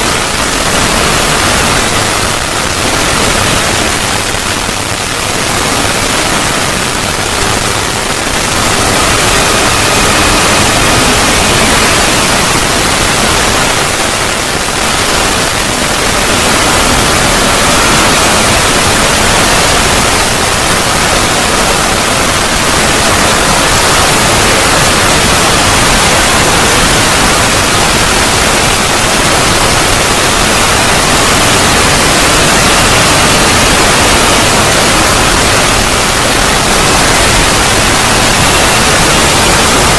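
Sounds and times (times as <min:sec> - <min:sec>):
harsh white noise hiss: 0:00.0 - 0:39.9.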